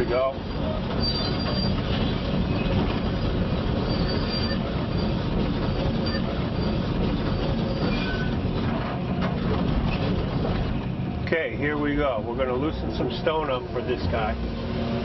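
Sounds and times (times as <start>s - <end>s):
track links squealing and clanking: 0.0s - 14.7s
diesel engine under load: 0.0s - 15.0s.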